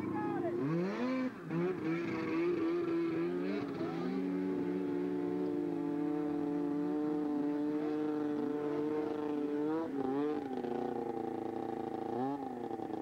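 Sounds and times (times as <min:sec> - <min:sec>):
snowmobile engine high revs: 0:00.0 - 0:13.0.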